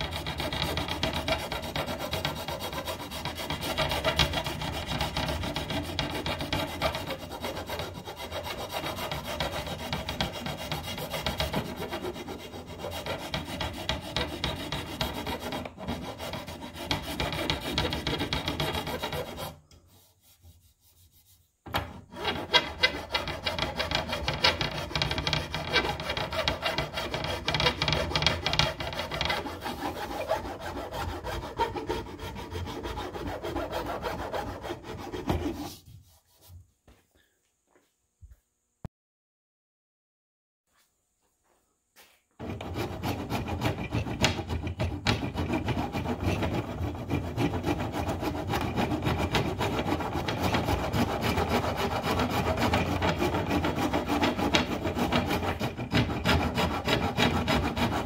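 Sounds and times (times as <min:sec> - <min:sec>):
steel files rasping on wood: 0:00.0 - 0:36.5, 0:42.4 - 0:58.0.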